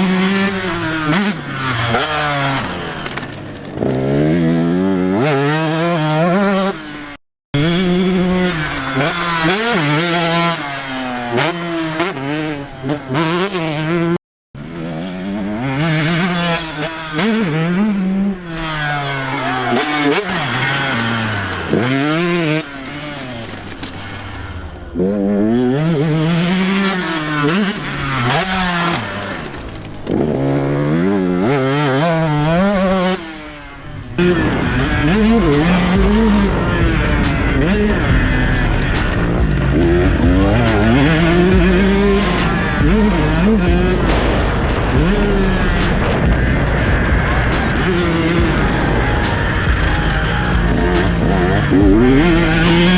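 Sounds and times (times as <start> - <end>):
motocross bike engine revving: 0.0 - 52.9.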